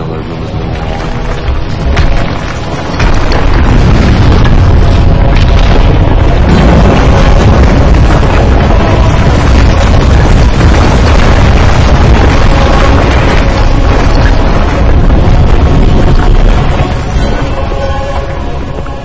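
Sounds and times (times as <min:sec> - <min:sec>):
rock rumbling and booming: 0:00.0 - 0:19.0
sustained music notes: 0:00.0 - 0:19.0.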